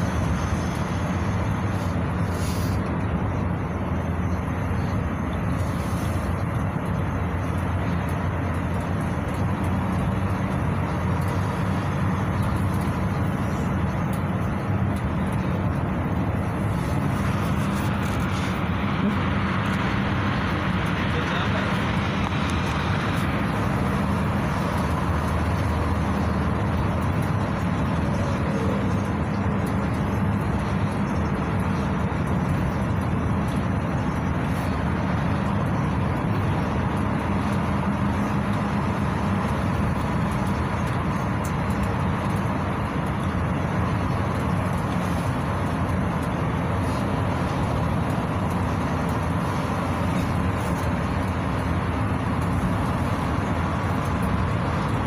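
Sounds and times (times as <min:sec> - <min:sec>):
minibus engine drone: 0:00.0 - 0:55.0
tyre and road noise: 0:00.0 - 0:55.0.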